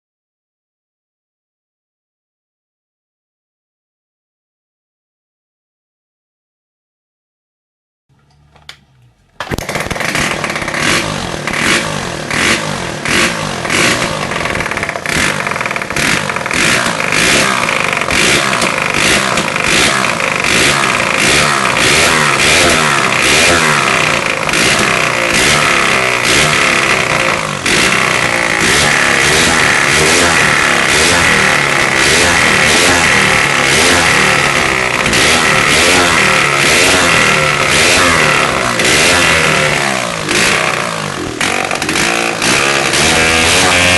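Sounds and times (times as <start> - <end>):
motorcycle engine running: 8.1 - 43.9.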